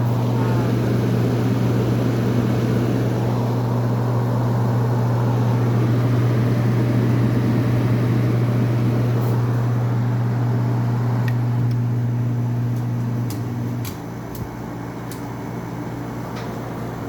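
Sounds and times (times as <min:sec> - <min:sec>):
air conditioner humming: 0:00.0 - 0:17.0
fan rushing air: 0:00.0 - 0:17.0.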